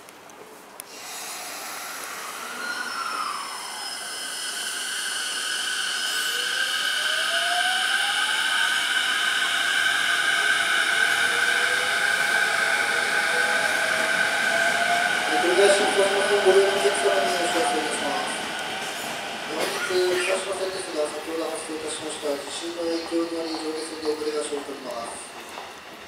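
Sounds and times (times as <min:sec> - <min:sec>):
electric train passing: 0:00.9 - 0:26.0
rising whine: 0:01.4 - 0:22.9
high-pitched squealing: 0:01.8 - 0:23.5.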